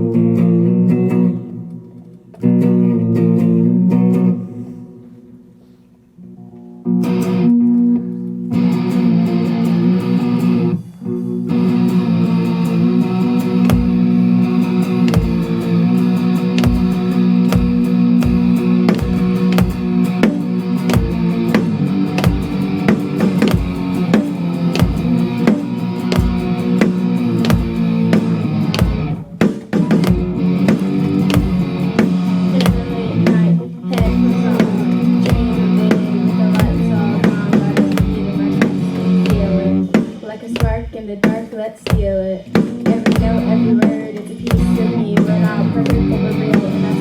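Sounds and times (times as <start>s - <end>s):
distorted electric guitar: 0.0s - 5.6s, 6.2s - 47.0s
drum kit beat: 8.5s - 10.8s, 11.4s - 47.0s.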